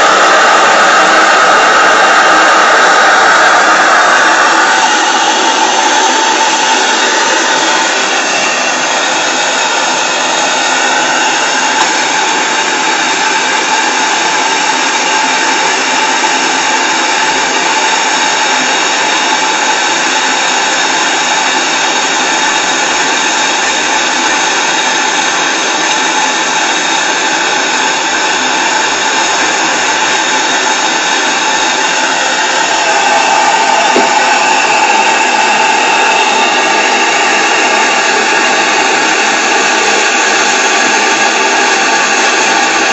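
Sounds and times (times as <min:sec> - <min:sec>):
steam engine running: 0:00.0 - 0:42.9.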